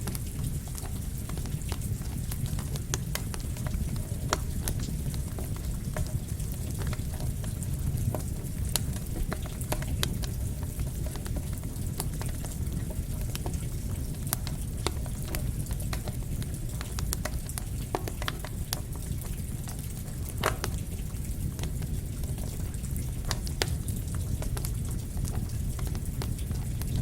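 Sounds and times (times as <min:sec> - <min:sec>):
campfire crackling and popping: 0:00.0 - 0:27.0
falling rain: 0:00.0 - 0:27.0.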